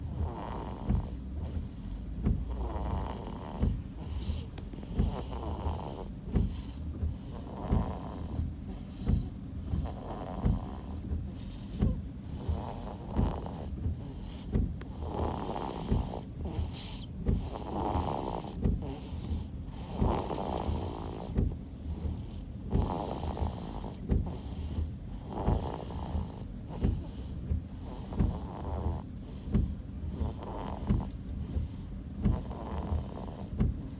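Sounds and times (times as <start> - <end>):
baby snoring: 0.0 - 33.9.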